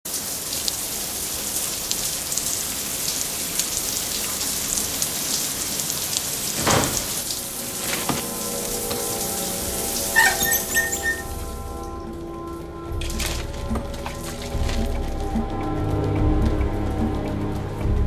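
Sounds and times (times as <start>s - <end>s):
shower water pouring and splashing: 0.1s - 11.9s, 12.9s - 18.0s.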